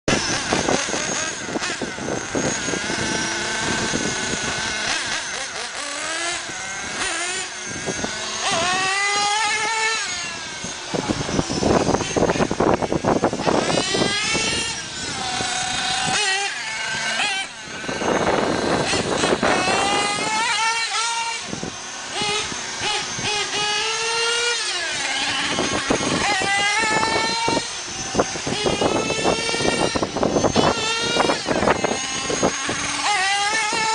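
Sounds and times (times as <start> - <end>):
toy car motor whining: 0.1 - 33.9.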